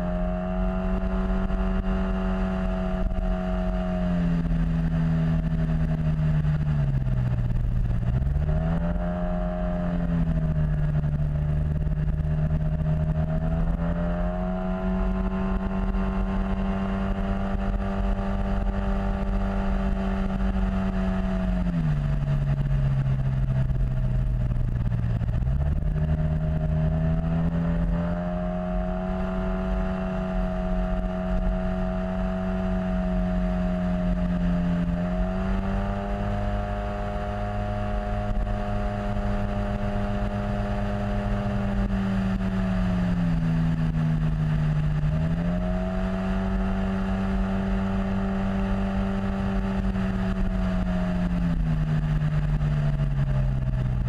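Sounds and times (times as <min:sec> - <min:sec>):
wind rumble on microphone: 0:00.0 - 0:54.0.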